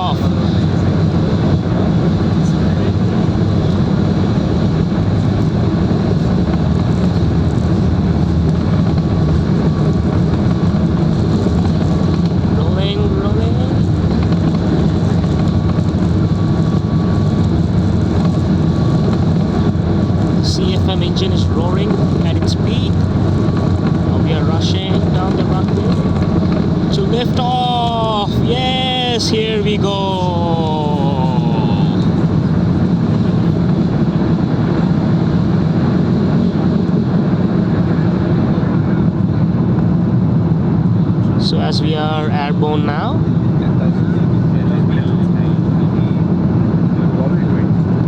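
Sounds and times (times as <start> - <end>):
jet engines roaring: 0.0 - 48.0
wheels rumbling on runway: 0.0 - 48.0.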